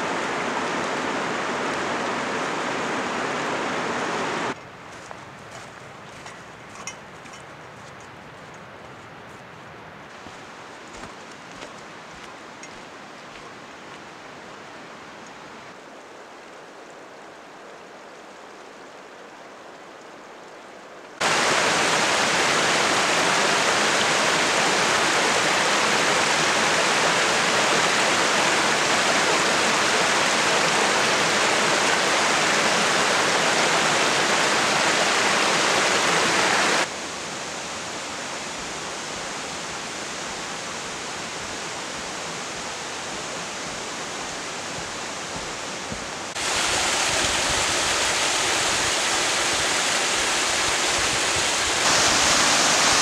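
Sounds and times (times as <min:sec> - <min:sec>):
creek rushing over stones: 0:00.0 - 0:20.6, 0:21.2 - 0:53.0.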